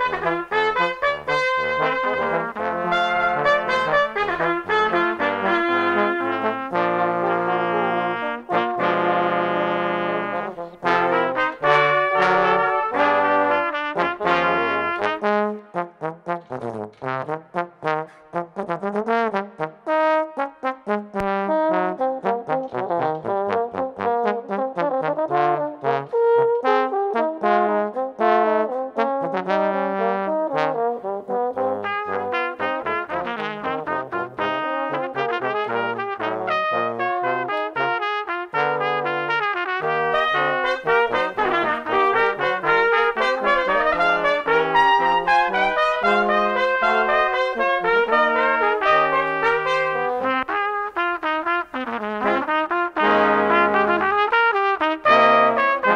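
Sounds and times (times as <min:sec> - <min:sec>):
brass quintet playing: 0:00.0 - 0:55.9
low trombone bass line: 0:00.0 - 0:55.9.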